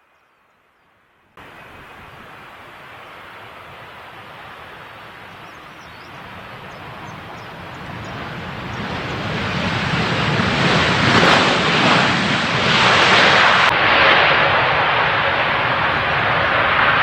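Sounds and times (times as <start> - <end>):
jet airliner engine noise: 1.4 - 17.0.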